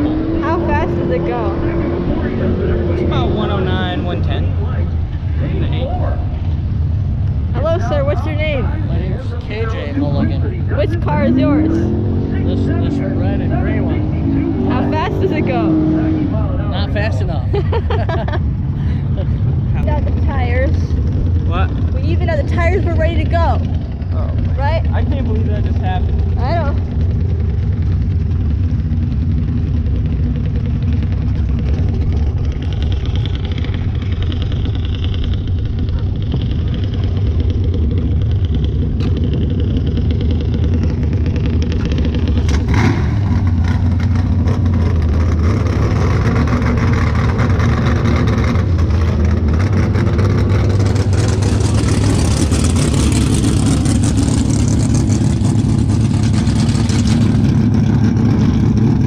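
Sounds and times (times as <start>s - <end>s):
car engine running: 0.0s - 59.0s
loud rough noise: 0.0s - 59.0s.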